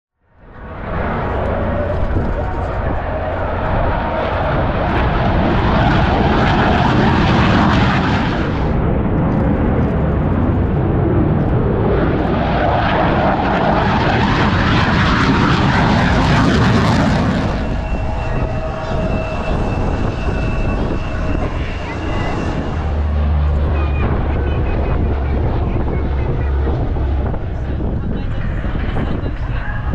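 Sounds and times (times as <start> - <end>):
military aircraft engine roar: 0.3 - 29.9.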